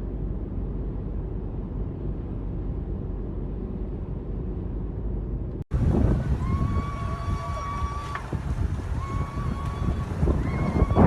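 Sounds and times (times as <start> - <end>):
steady low rumbling: 0.0 - 11.0.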